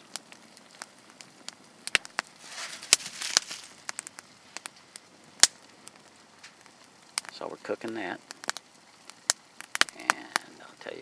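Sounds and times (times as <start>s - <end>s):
sharp pops: 0.0s - 10.6s
campfire crackling: 0.0s - 11.0s.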